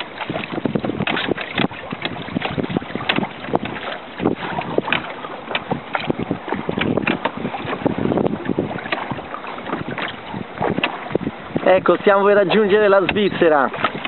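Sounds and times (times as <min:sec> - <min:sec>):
water splashing around a boat: 0:00.0 - 0:14.0
wind buffeting microphone: 0:00.0 - 0:14.0.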